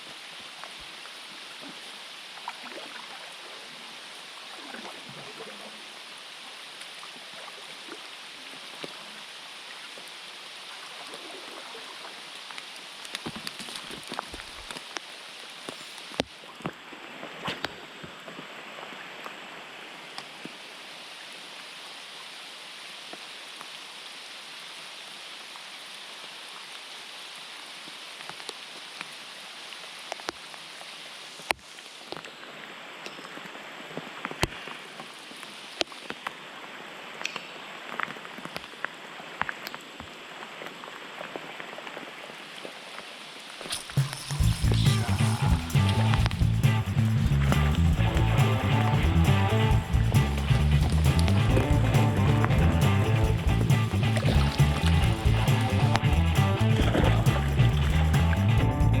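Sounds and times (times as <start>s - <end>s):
steady rain: 0.0s - 4.6s, 5.3s - 17.2s, 17.9s - 59.0s.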